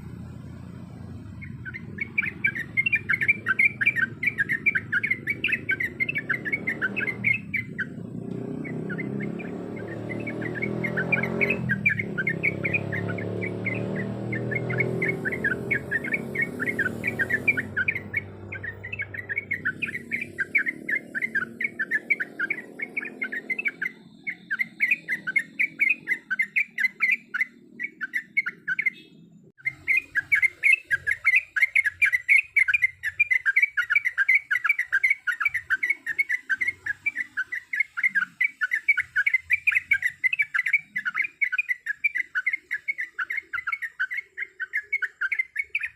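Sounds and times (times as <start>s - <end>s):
bulbul chattering call: 0.0s - 45.9s.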